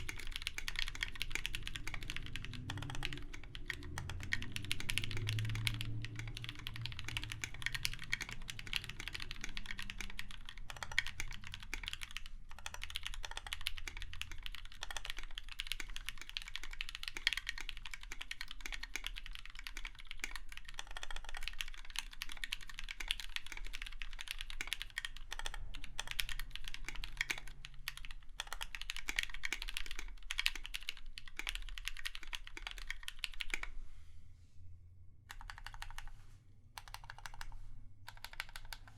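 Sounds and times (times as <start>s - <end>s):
mechanical keyboard typing: 0.0s - 33.8s, 35.3s - 36.2s, 36.8s - 38.9s.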